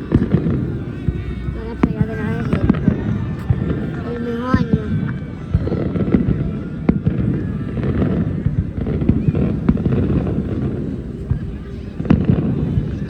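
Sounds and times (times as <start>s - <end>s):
fireworks rumbling: 0.0s - 13.0s
fireworks sharp bangs: 0.0s - 13.0s.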